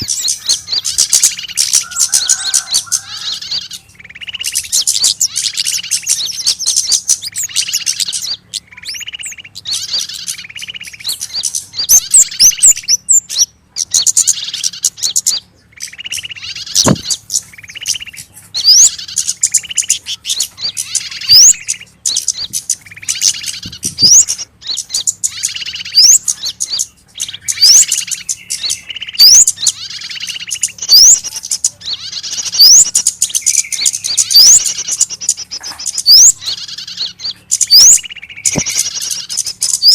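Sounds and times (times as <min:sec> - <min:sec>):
buzzy chattering bird calls: 0:00.0 - 0:39.9
small birds alarm calls: 0:00.0 - 0:39.9.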